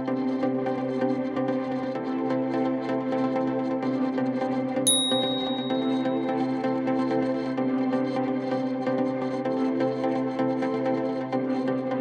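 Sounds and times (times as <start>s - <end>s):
music with sustained layered tones: 0.0s - 12.0s.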